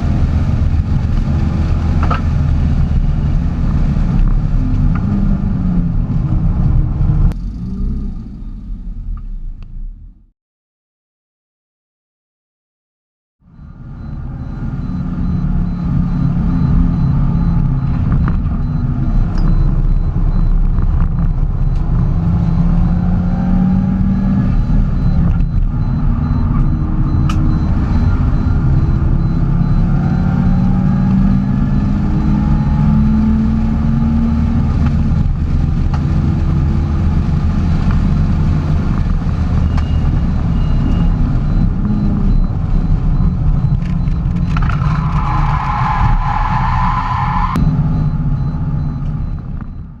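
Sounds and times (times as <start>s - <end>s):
car engine accelerating: 0.0s - 10.3s, 13.5s - 49.8s.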